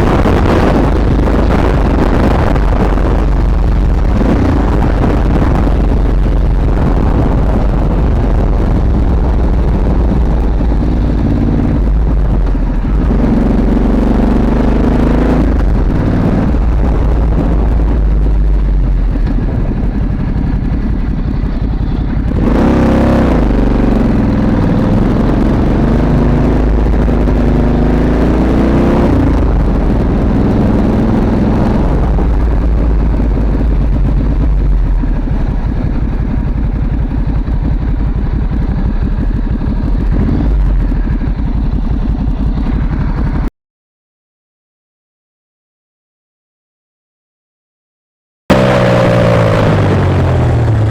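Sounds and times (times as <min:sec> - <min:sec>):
motorcycle engine accelerating: 0:00.0 - 0:43.5, 0:48.5 - 0:50.9
wind and road noise: 0:00.0 - 0:43.5, 0:48.5 - 0:50.9.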